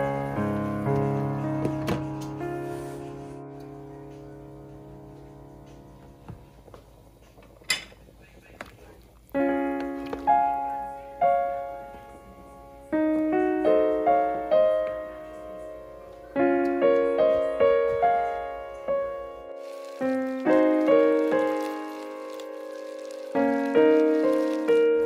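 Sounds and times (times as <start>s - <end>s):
slow piano chords and melody: 0.0s - 7.9s, 9.3s - 25.0s.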